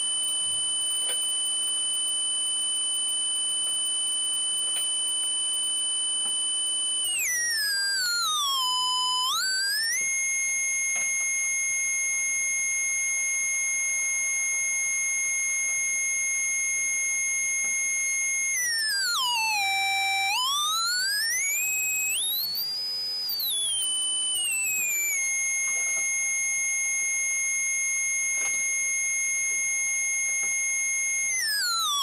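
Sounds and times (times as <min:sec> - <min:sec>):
electronic test tone sweeping: 0:00.0 - 0:32.0.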